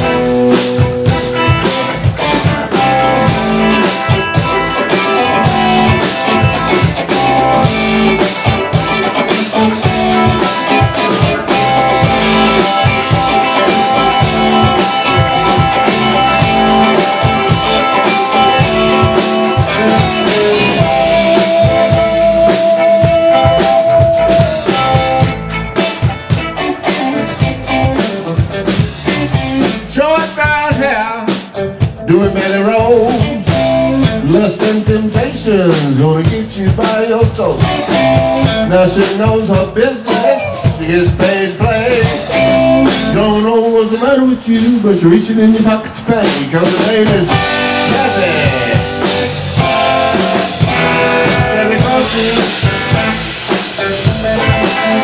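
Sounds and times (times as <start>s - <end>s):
electric guitar lead: 0.0s - 44.6s, 45.9s - 55.0s
bass guitar: 0.0s - 55.0s
drum kit: 0.0s - 55.0s.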